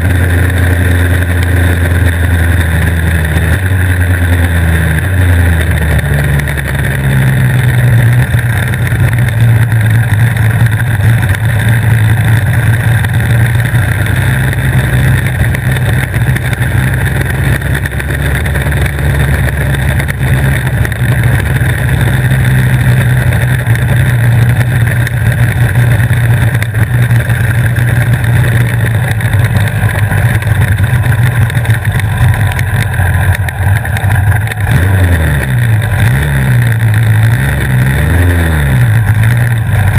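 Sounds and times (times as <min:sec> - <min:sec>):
two-stroke kart engine running: 0:00.0 - 0:39.9.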